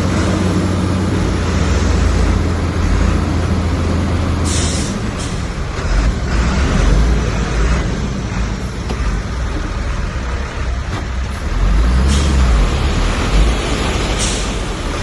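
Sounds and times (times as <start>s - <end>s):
diesel machinery engine rumble: 0.0s - 15.0s.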